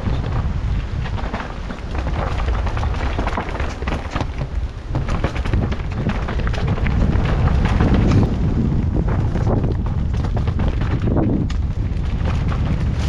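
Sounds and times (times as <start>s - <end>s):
bike tyres knocking and rattling: 0.0s - 13.0s
wind on microphone: 0.0s - 13.0s.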